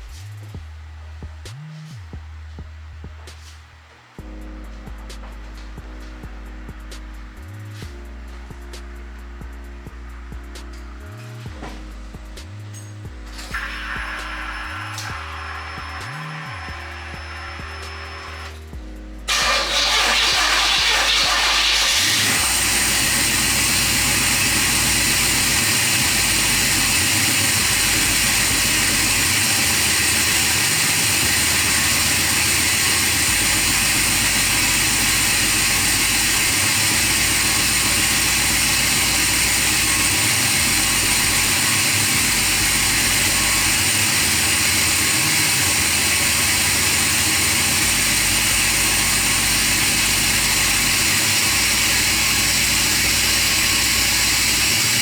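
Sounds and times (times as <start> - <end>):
constant high whine: 0.0 - 55.0
car engine idling: 2.1 - 55.0.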